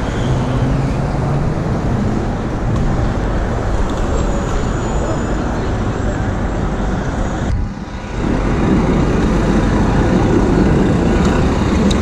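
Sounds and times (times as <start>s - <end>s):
city street traffic noise: 0.0s - 12.0s.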